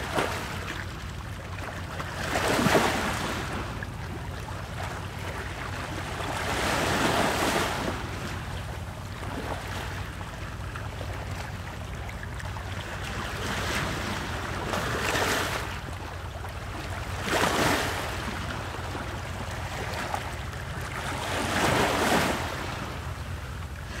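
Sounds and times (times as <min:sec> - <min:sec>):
ocean waves: 0:00.0 - 0:24.0.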